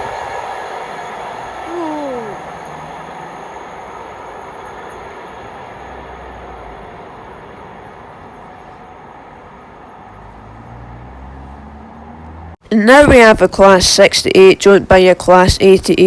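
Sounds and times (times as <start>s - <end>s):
wheels clicking on rails: 0.0s - 13.2s
freight train wagons rumbling past: 0.0s - 14.1s.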